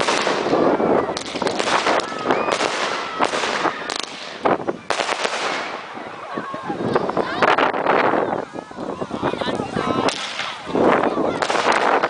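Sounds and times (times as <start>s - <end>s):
fireworks bangs and crackles: 0.0s - 12.0s
people's voices: 0.0s - 12.0s.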